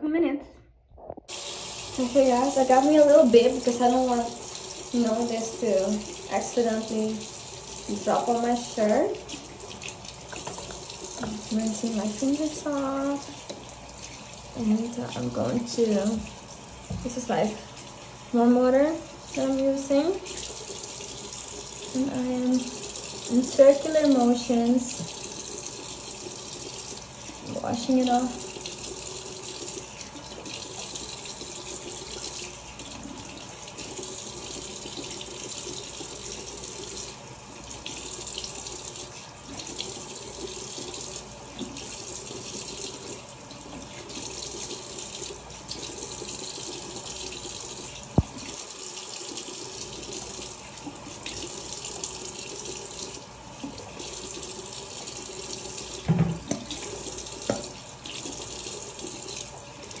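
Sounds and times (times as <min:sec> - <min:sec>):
sink tap running: 0:01.3 - 1:00.0.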